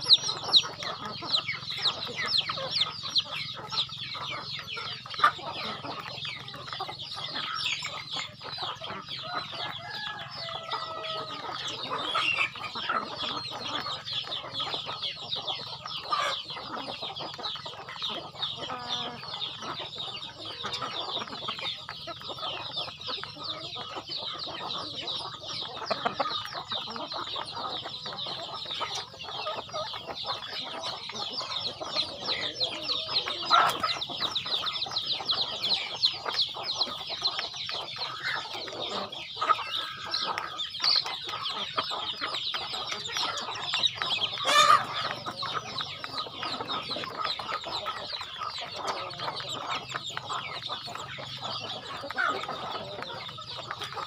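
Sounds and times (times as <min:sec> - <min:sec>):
beaks pecking grain: 0:00.0 - 0:54.0
chickens clucking softly: 0:00.0 - 0:54.0.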